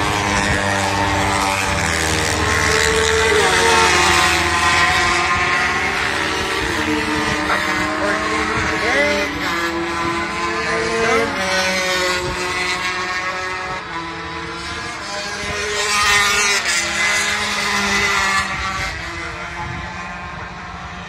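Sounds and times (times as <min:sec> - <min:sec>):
racing motorcycle engines revving: 0:00.0 - 0:21.0.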